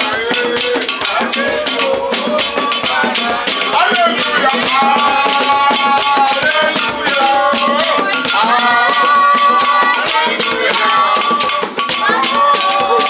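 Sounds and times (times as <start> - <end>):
shakers and drums beat: 0.0 - 13.0
sung worship melody: 0.0 - 13.0.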